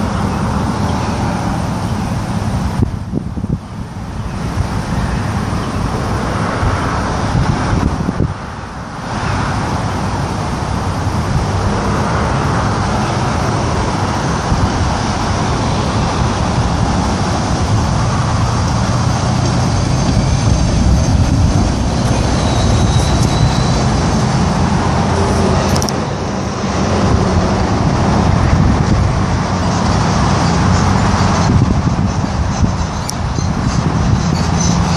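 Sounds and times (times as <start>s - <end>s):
pickup truck engine rumble: 0.0s - 34.9s
road traffic noise: 0.0s - 34.9s.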